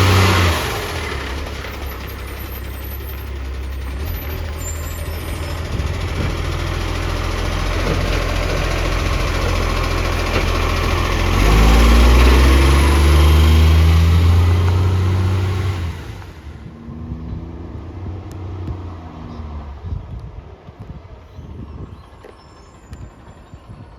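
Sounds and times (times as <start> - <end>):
truck engine revving: 0.0 - 19.9.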